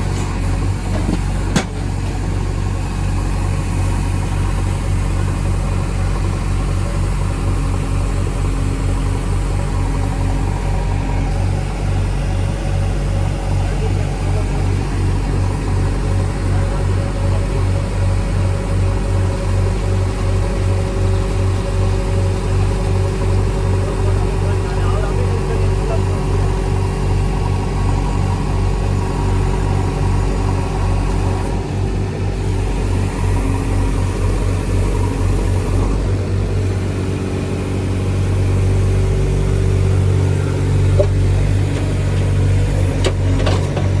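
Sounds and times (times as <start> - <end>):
steady high whine: 0.0 - 43.2
diesel engine running: 0.0 - 44.0.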